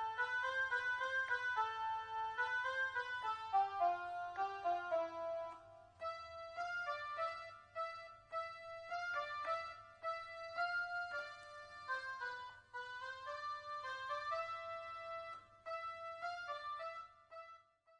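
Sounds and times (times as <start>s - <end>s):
instrumental melody of struck notes: 0.0s - 17.7s.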